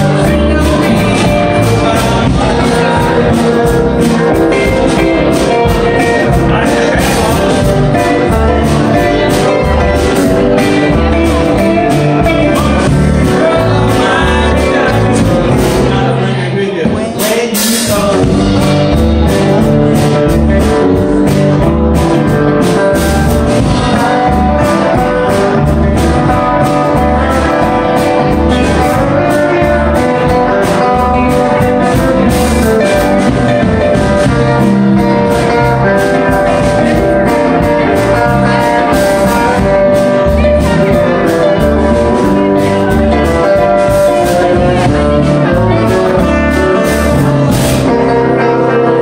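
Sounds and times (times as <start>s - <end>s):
live band playing: 0.0s - 49.0s.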